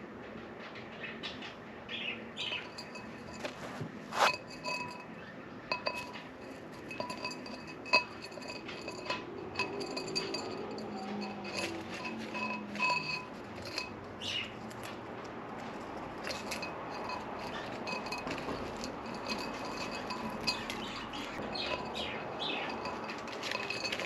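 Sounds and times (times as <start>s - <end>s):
glass vase clinking and ringing: 2.4s - 14.8s, 16.2s - 24.0s.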